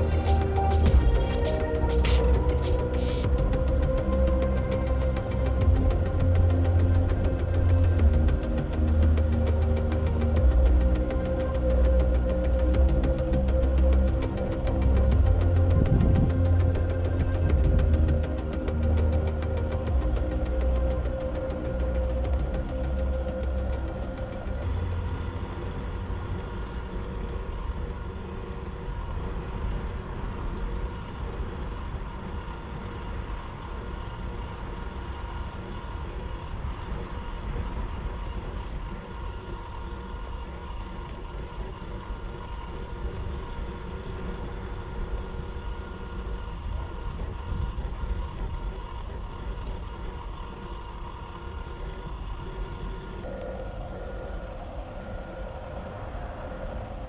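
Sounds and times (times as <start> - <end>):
low rumble: 0.0 - 35.4, 42.5 - 57.0
electric motor and gears whining: 0.0 - 57.0.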